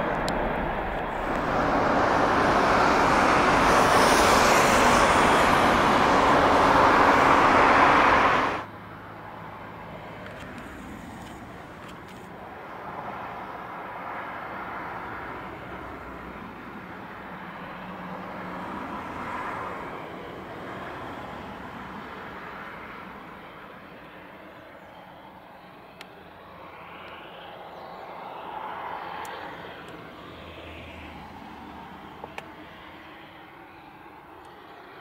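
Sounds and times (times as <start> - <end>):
jet engines at takeoff thrust: 0.0 - 35.0
jet engines humming at low thrust: 0.0 - 35.0.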